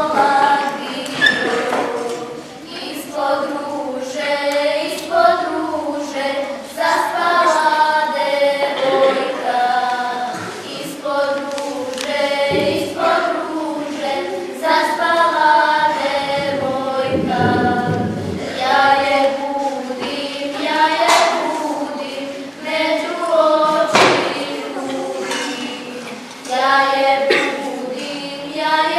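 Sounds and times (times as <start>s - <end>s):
girls singing a folk song: 0.0s - 28.9s.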